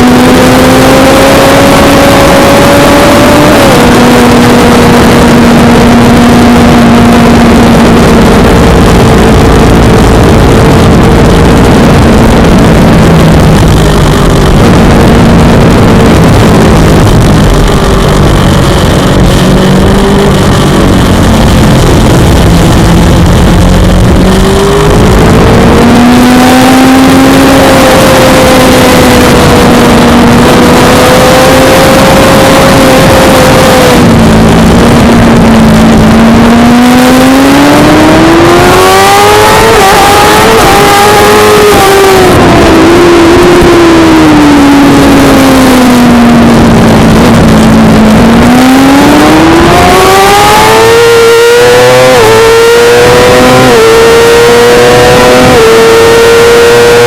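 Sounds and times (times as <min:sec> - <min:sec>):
heavy rush of noise: 0:00.0 - 0:57.0
motorcycle engine at high revs: 0:00.0 - 0:57.0.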